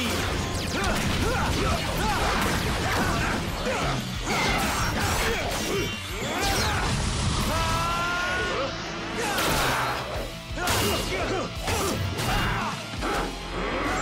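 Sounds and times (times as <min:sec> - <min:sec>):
dramatic background music: 0:00.0 - 0:14.0.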